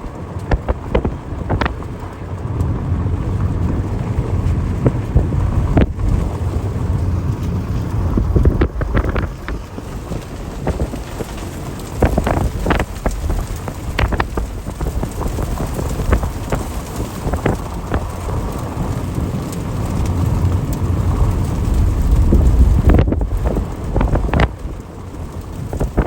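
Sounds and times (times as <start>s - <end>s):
heavy rain falling: 0.0s - 26.0s
low wind rumble: 0.0s - 26.0s
raindrops ticking close by: 0.0s - 26.0s.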